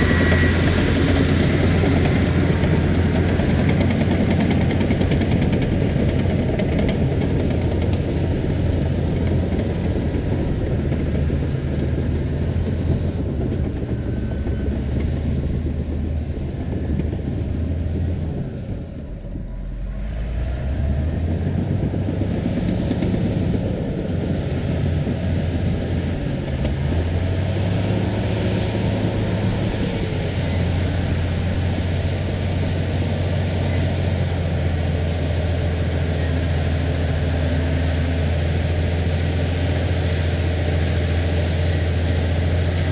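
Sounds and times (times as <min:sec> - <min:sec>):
earthmoving machine engine: 0:00.0 - 0:42.9.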